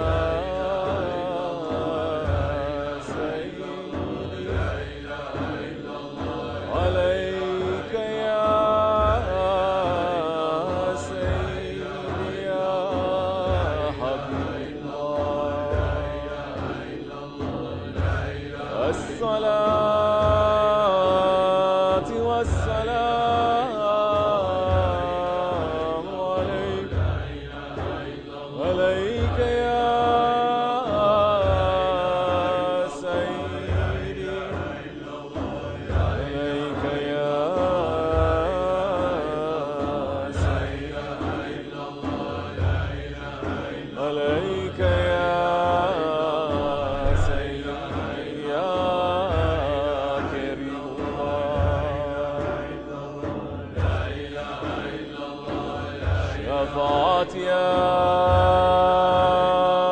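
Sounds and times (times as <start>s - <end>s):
voices chanting with held notes: 0.0s - 59.9s.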